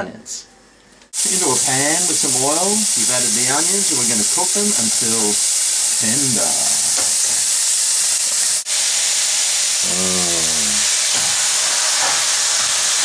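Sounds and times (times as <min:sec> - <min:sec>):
onions sizzling in a frying pan: 0:01.1 - 0:13.0.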